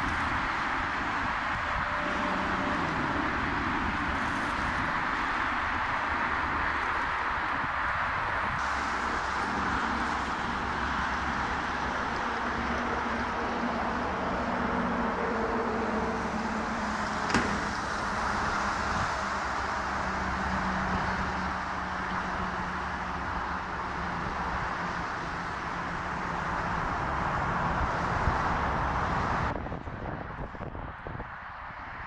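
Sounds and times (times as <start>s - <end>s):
jet engines roaring on takeoff: 0.0s - 32.0s.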